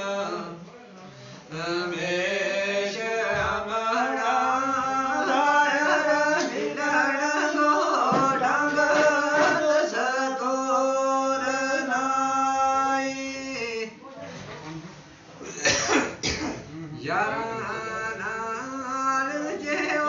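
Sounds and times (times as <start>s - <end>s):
man singing unaccompanied: 0.0s - 0.7s, 1.5s - 14.0s, 17.0s - 20.0s.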